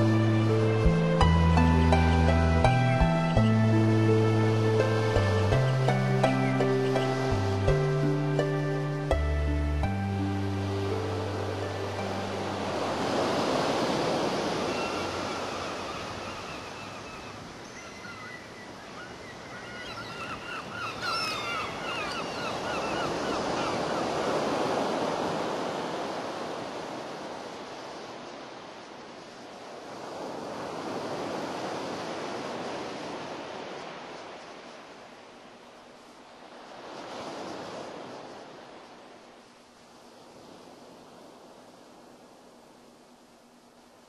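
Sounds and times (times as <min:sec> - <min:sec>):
ocean waves washing in: 0:00.0 - 0:19.6, 0:20.4 - 0:44.0.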